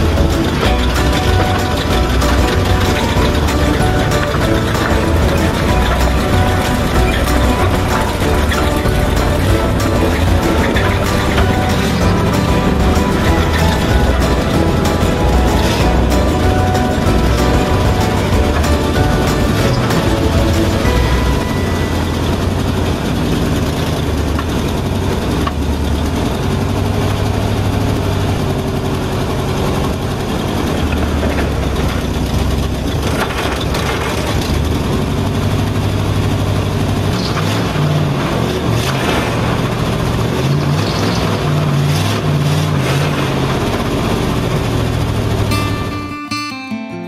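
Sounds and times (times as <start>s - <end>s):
truck engine running under load: 0.0s - 45.7s.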